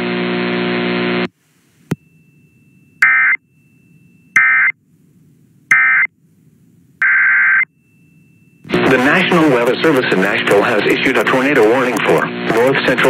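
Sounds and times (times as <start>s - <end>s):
steady buzz: 0.8s - 13.0s.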